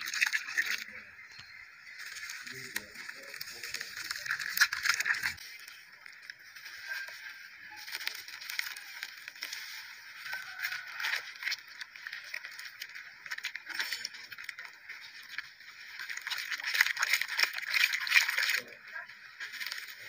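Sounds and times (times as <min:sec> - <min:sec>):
wet dirt crackling and squishing: 0:00.0 - 0:20.0.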